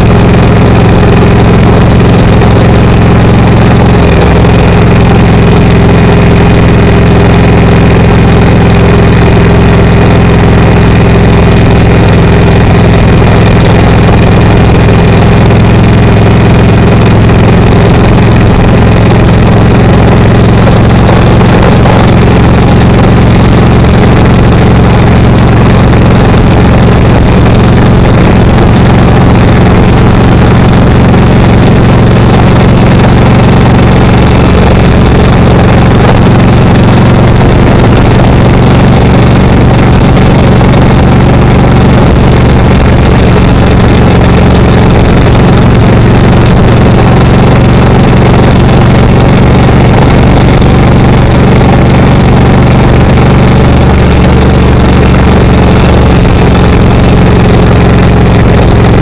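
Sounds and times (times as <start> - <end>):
car engine hum: 0.0 - 59.0
road noise: 0.0 - 59.0.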